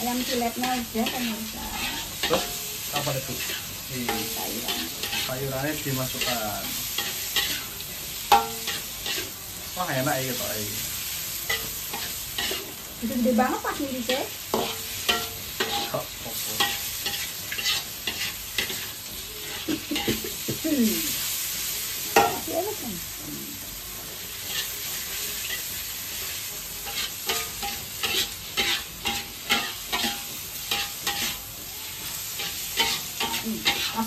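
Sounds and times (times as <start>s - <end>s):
chicken sizzling in oil: 0.0s - 34.0s
spatula scraping a wok: 0.0s - 34.0s.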